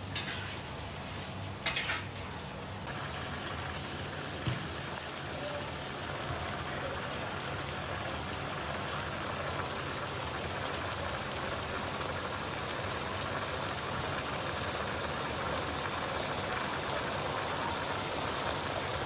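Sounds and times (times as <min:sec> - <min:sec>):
bubbling sizzle in a wok: 0:00.0 - 0:19.0.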